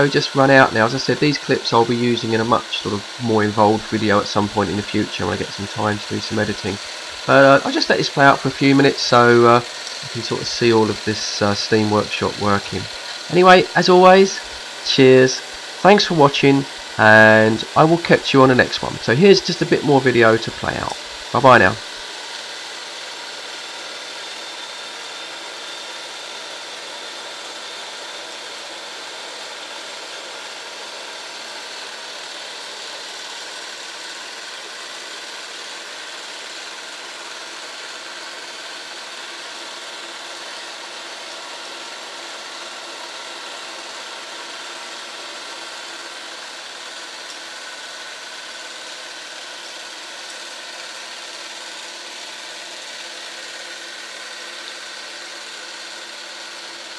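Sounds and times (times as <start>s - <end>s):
toy steam engine running: 0.0s - 56.9s.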